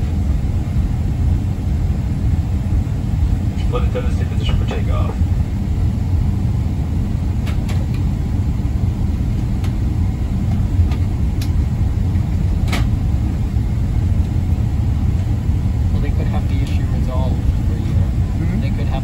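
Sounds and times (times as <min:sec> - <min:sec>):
aircraft cabin rumble: 0:00.0 - 0:19.0.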